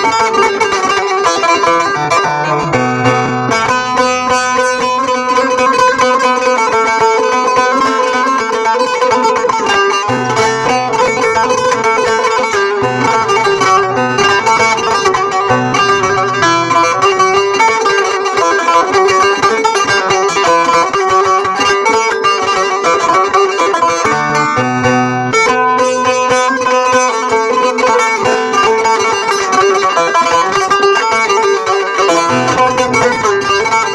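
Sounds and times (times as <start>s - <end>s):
long-necked lute plucked folk tune: 0.0s - 33.9s.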